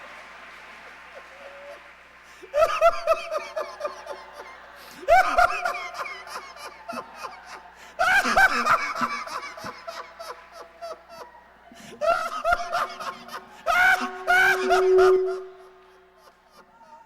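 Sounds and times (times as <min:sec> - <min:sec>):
people laughing hard: 0:00.0 - 0:17.0.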